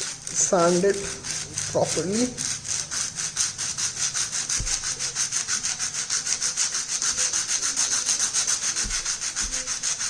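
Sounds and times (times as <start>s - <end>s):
brake pad rubbing on sandpaper: 0.0s - 10.0s.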